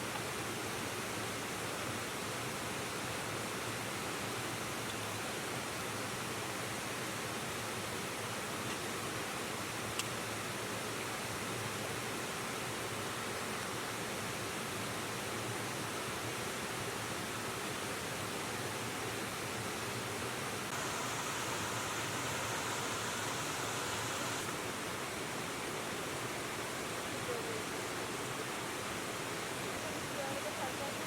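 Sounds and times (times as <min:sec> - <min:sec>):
river water rushing: 0:00.4 - 0:31.0.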